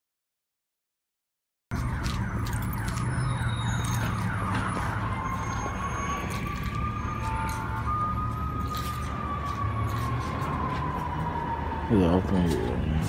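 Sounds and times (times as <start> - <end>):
siren wailing: 1.7 - 13.0.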